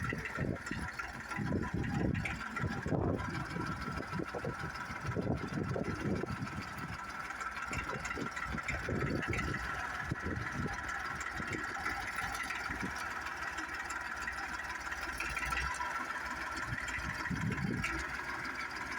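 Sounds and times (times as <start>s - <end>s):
backhoe diesel engine running: 0.0s - 18.9s.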